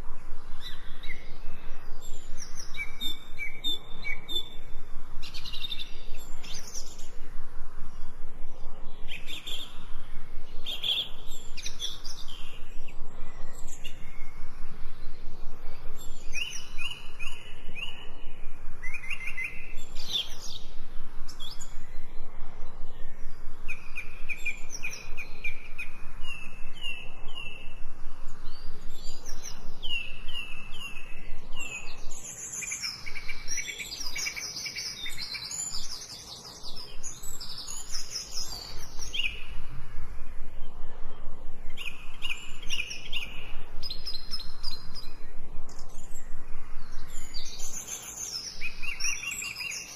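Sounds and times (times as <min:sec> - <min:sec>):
songbirds chirping and singing: 0:00.2 - 0:49.9.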